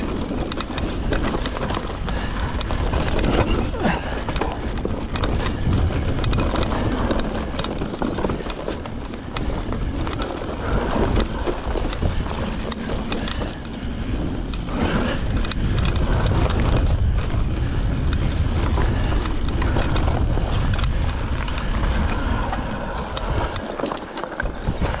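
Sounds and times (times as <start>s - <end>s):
wind buffeting microphone: 0.0s - 23.8s, 24.4s - 25.0s
bike clicks and rattles: 0.0s - 25.0s
tyres rumbling over gravel: 0.0s - 25.0s.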